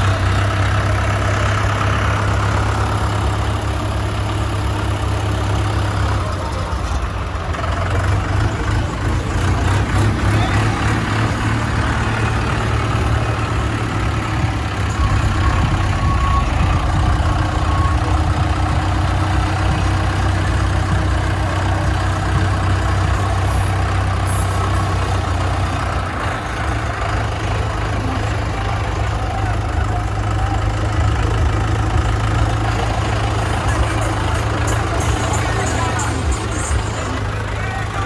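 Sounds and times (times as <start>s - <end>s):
tractor diesel engines running: 0.0s - 38.0s.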